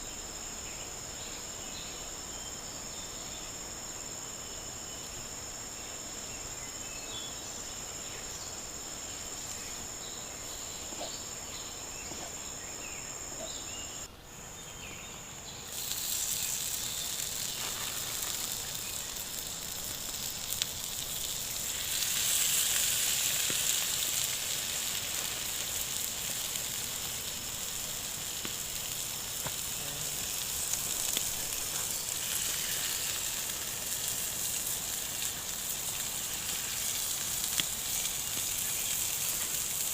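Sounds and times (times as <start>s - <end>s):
crickets trilling: 0.0s - 39.9s
food sizzling on hot stone: 0.0s - 39.9s.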